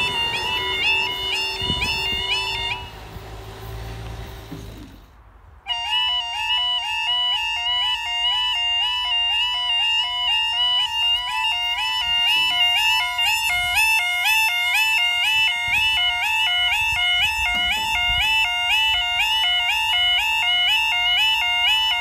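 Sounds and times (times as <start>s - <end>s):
level crossing two-tone warble alarm: 0.0s - 3.8s, 5.7s - 22.0s.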